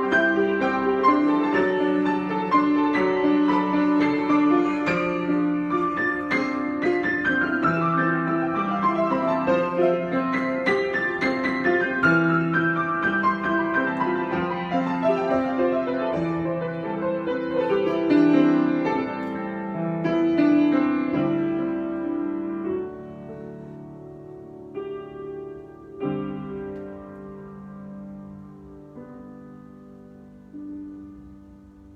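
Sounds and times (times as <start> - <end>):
solo piano: 0.0 - 31.9.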